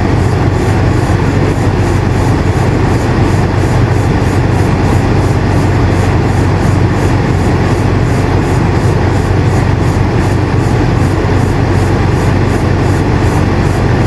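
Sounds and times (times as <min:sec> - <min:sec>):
air conditioner running: 0:00.0 - 0:14.0.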